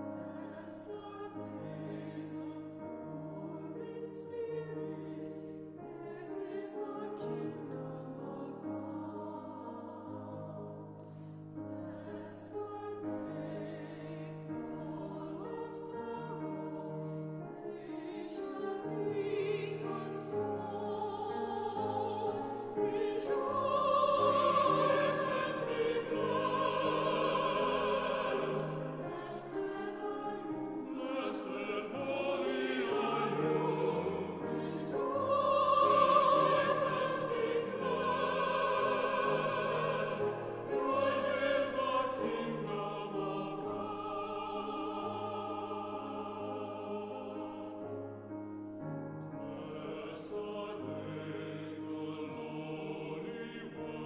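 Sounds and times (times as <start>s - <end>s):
slow classical choral music: 0.0s - 54.0s.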